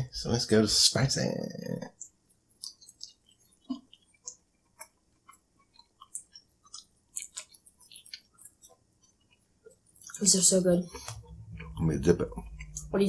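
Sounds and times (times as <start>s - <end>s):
chewing clicks and smacks: 1.8s - 10.3s, 10.9s - 13.0s.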